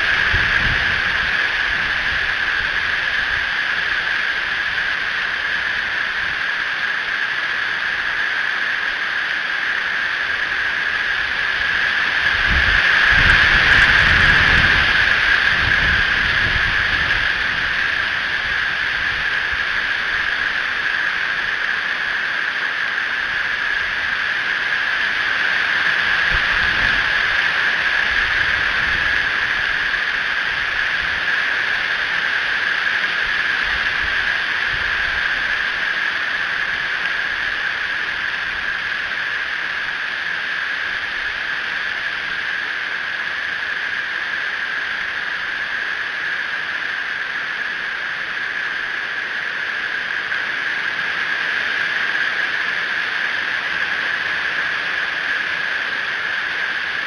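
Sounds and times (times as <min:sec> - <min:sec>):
rain hissing: 0:00.0 - 0:57.0.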